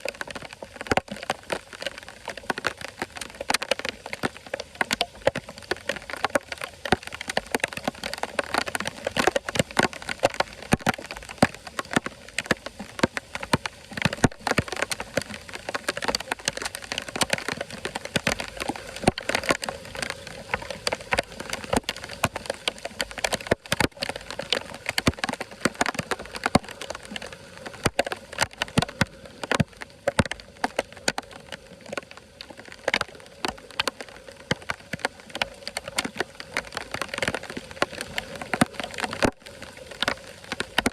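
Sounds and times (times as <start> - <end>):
water drops pattering and splashing: 0.0 - 40.9.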